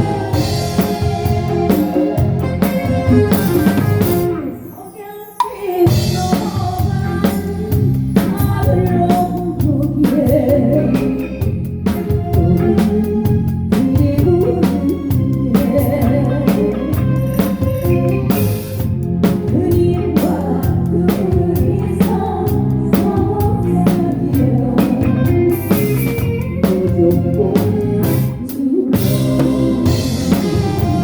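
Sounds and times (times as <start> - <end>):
drum kit beat: 0.0 - 4.8, 5.4 - 31.0
live band playing: 0.0 - 31.0
person singing: 0.0 - 31.0.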